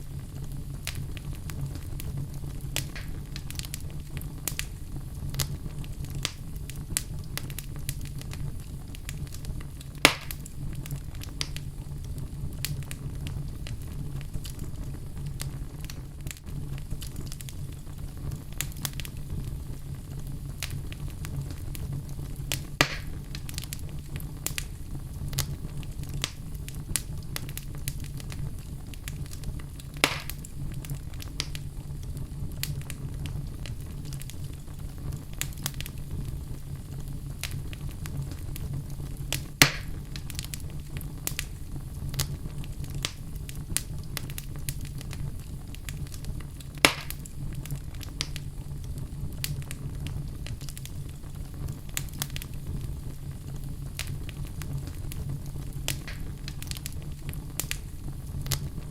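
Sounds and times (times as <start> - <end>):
fire crackling in fireplace: 0.0 - 58.9
fire popping: 0.0 - 58.9.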